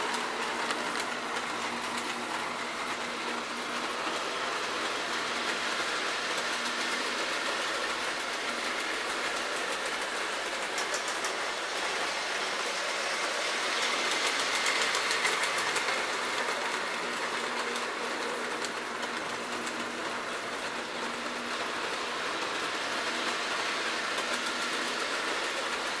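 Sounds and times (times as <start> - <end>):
model train motor hum and rumble: 0.0 - 26.0.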